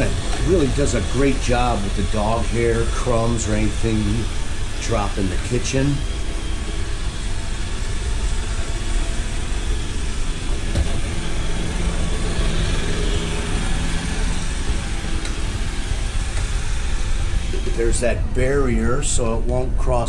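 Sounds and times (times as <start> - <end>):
robot vacuum whirring: 0.0 - 19.2
low hum: 0.0 - 20.0.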